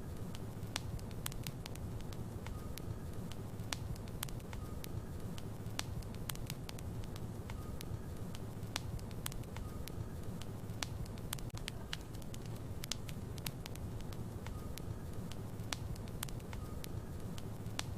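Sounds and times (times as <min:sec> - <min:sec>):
fire crackles and pops: 0:00.0 - 0:17.9
fire rumble: 0:00.0 - 0:17.9.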